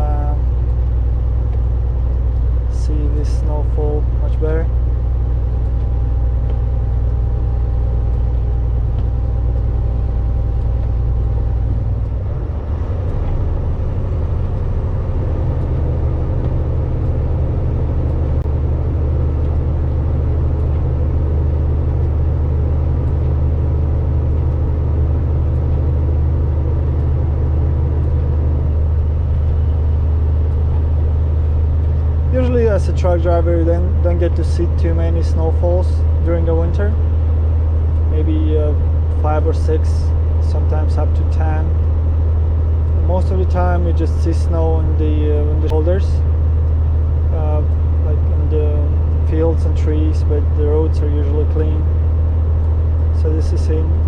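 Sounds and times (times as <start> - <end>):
truck engine running inside cab: 0.0 - 54.0.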